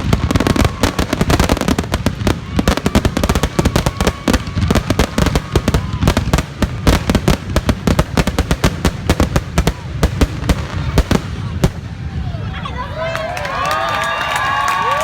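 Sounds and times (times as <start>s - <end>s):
firework bursts: 0.0s - 12.4s.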